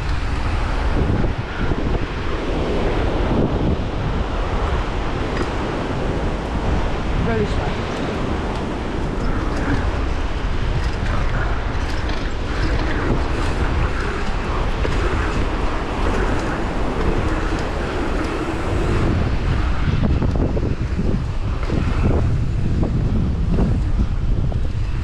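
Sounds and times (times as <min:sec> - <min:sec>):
bike tyre noise on asphalt: 0:00.0 - 0:25.0
wind buffeting microphone: 0:00.0 - 0:25.0.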